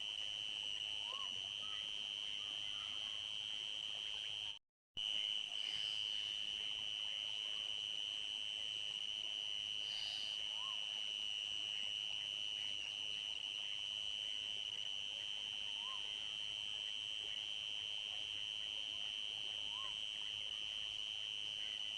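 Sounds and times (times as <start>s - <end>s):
crickets trilling: 0.2s - 21.9s.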